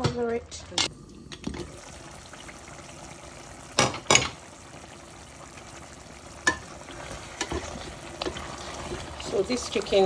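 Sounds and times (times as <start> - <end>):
stew bubbling in a pot: 0.0 - 10.0.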